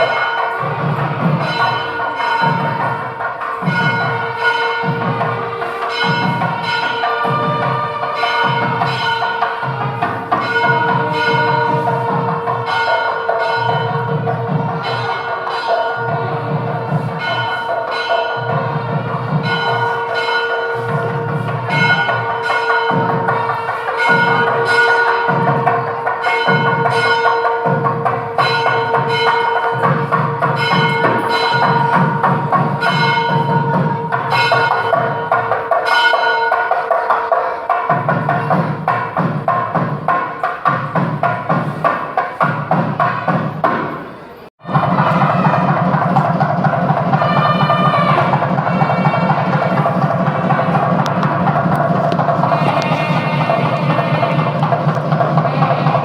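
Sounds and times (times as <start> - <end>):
bell-like notes: 0.0 - 40.8, 44.1 - 55.8
percussive beat: 0.0 - 56.0.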